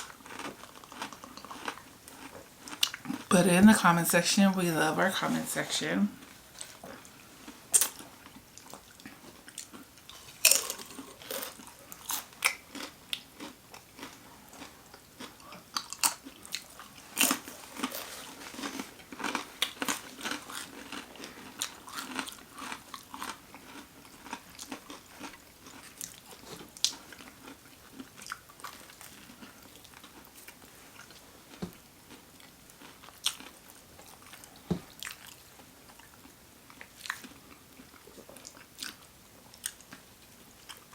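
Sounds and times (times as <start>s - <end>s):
chewing and biting: 0.0s - 3.3s, 6.6s - 40.9s
food crunches: 0.0s - 3.3s, 6.6s - 35.4s, 36.0s - 40.0s.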